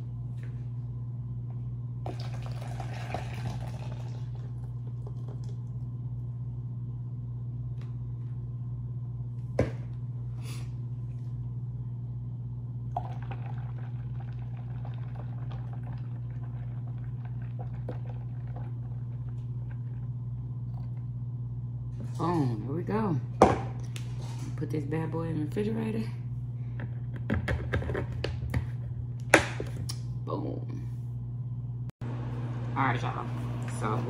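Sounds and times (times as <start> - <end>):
low hum: 0.0 - 27.3, 28.7 - 34.0.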